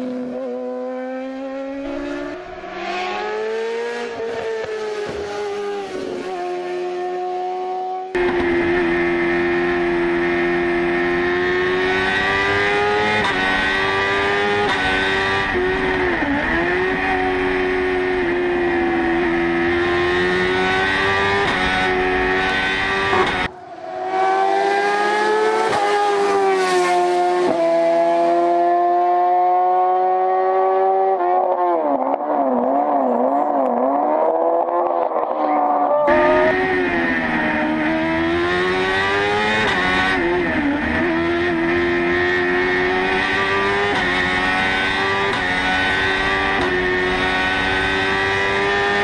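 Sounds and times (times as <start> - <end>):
motorcycle engine at high revs: 0.0 - 49.0.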